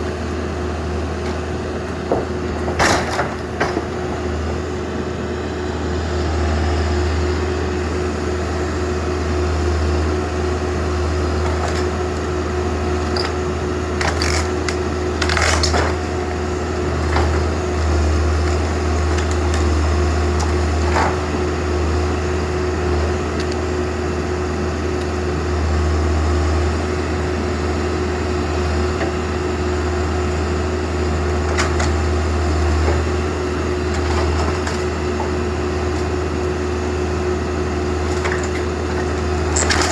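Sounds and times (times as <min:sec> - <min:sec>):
backhoe engine under load: 0:00.0 - 0:39.9.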